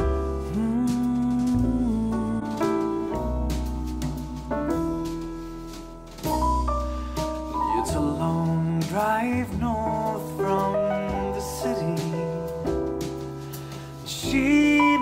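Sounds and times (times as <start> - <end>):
song over studio speakers: 0.0 - 15.0.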